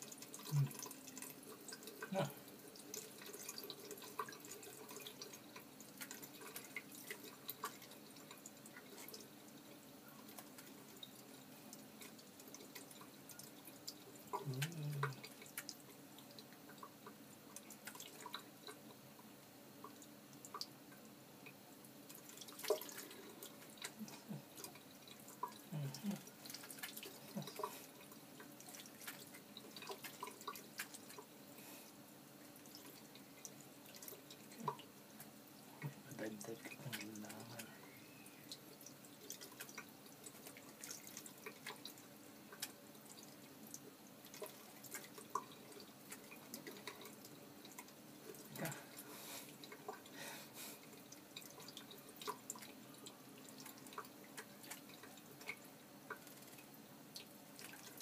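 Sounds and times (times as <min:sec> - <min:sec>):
small drips and splashes: 0:00.0 - 0:58.0.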